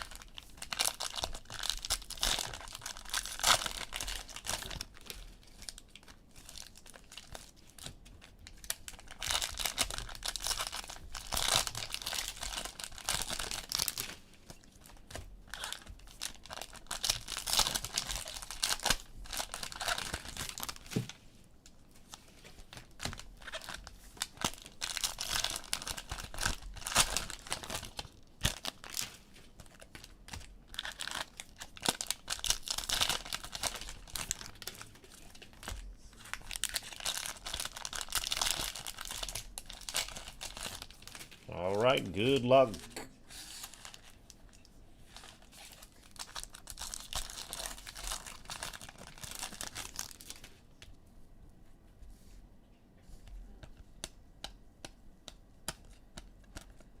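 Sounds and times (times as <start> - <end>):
cellophane wrappers crinkling and tearing: 0.0 - 21.2, 21.9 - 42.8, 43.5 - 50.7.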